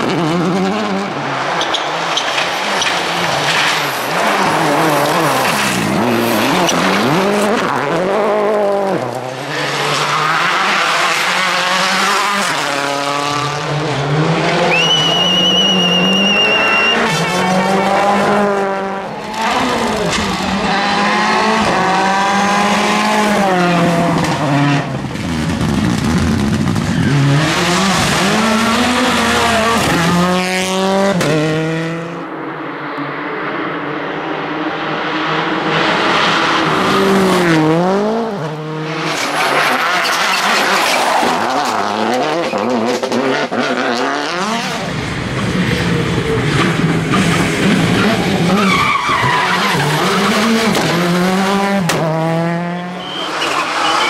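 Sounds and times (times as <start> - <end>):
rally cars racing past: 0.0 - 54.0.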